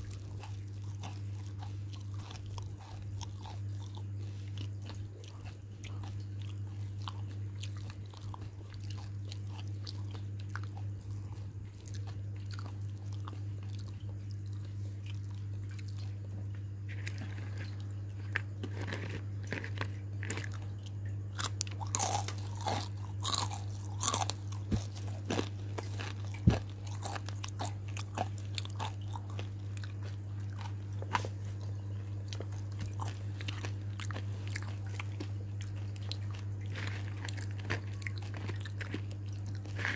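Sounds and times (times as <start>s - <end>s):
crunching fried chicken: 0.0s - 39.9s
steady low hum: 0.0s - 39.9s.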